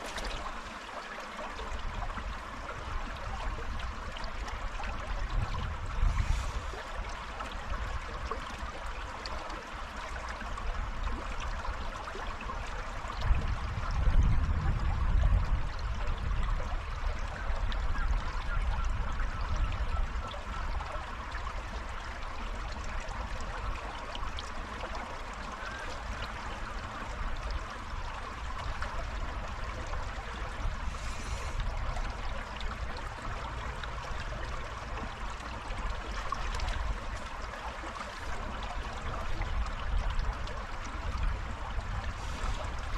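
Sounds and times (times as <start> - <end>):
river water flowing over stones: 0.0 - 42.9.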